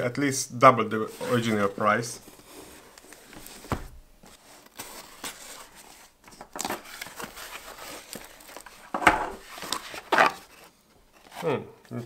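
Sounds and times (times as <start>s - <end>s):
cardboard flaps rustling: 1.0s - 11.5s.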